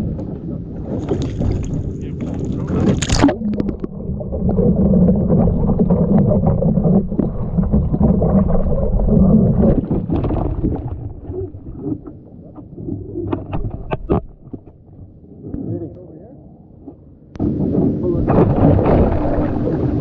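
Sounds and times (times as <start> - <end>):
muffled underwater churning water: 0.0 - 20.0
water splashing: 0.2 - 15.1, 17.4 - 20.0.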